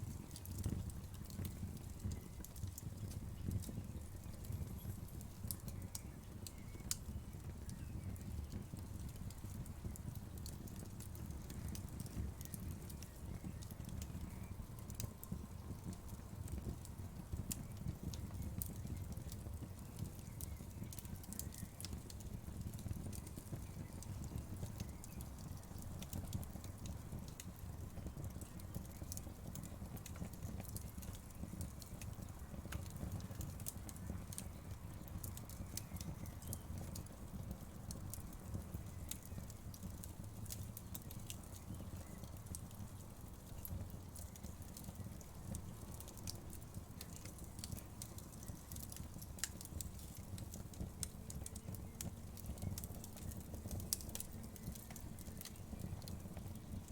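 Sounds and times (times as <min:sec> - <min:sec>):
burning wood crackling and popping: 0:00.0 - 0:56.9
flames rumbling: 0:00.0 - 0:56.9.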